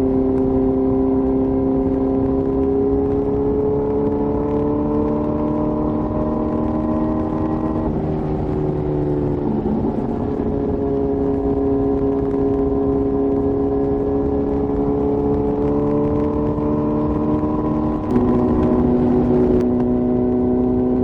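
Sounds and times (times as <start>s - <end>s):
motorcycle exhaust while riding: 0.0s - 21.0s.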